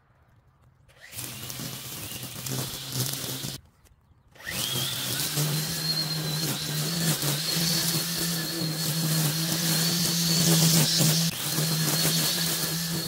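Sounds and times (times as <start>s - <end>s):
string trimmer whine: 0.9s - 3.6s, 4.4s - 13.0s.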